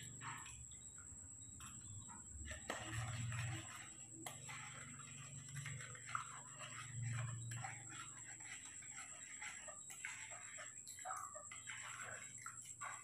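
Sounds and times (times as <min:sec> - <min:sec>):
spoon stirring in plastic cup: 0:00.0 - 0:13.0.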